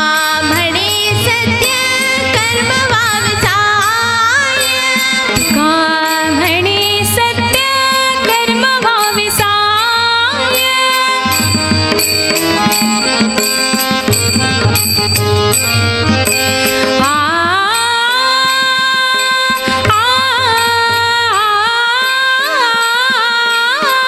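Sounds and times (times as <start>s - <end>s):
percussion quick beat: 0.0s - 24.0s.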